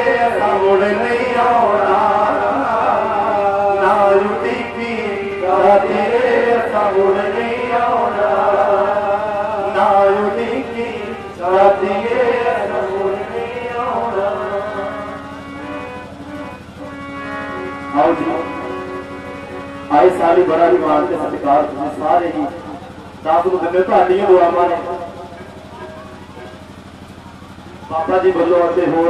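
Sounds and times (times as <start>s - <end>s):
harmonium chords: 0.0s - 29.0s
man singing through a pa system: 0.0s - 29.0s.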